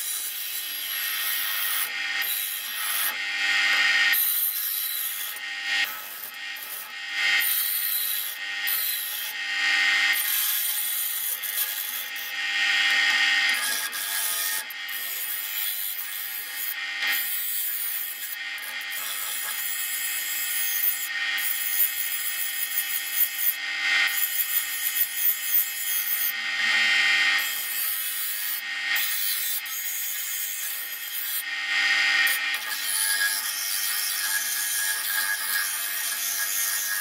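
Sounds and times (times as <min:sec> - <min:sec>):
bench grinder grinding steel: 0:00.0 - 0:37.0.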